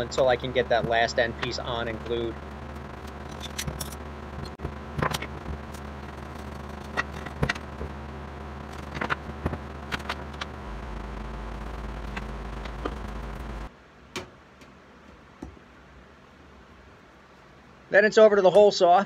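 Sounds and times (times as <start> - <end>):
steady low hum: 0.0 - 18.1.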